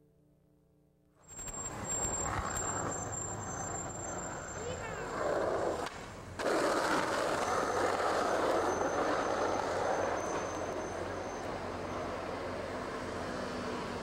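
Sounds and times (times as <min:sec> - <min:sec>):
skateboard wheels rolling on asphalt: 0:01.3 - 0:14.0.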